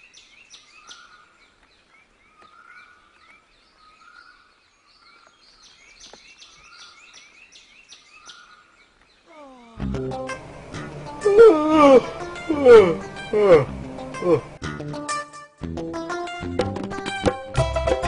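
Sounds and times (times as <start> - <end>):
small birds chirping: 0.0 - 14.6.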